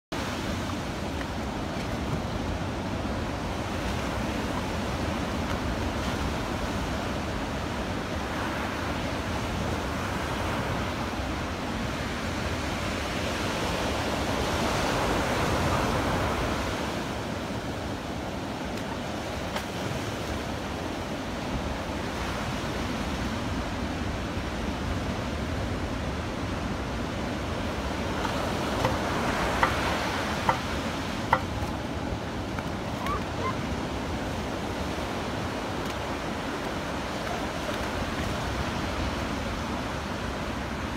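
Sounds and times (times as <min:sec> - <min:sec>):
ocean surf breaking on beach: 0:00.2 - 0:40.9.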